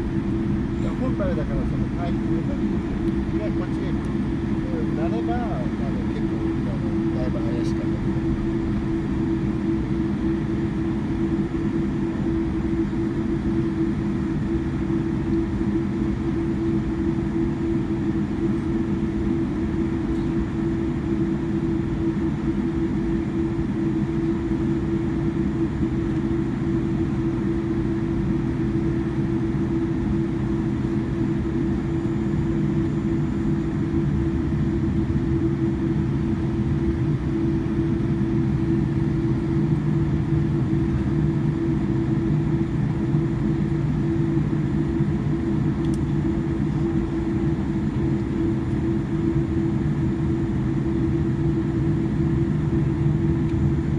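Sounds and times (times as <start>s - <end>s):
jet airliner taxiing drone: 0.0s - 53.9s.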